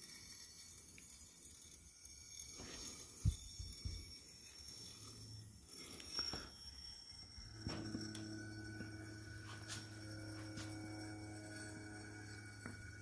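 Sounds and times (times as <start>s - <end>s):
gyroscope humming: 0.0s - 13.0s.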